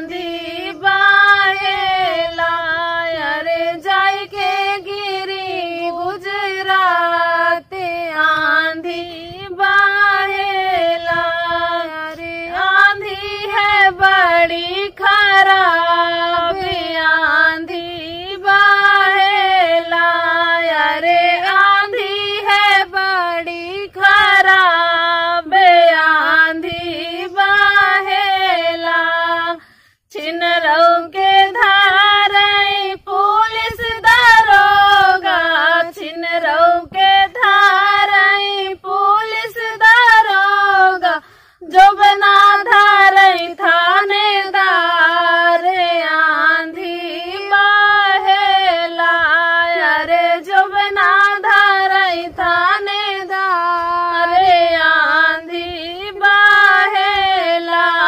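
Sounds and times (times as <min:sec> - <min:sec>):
women singing folk song: 0:00.0 - 0:58.0.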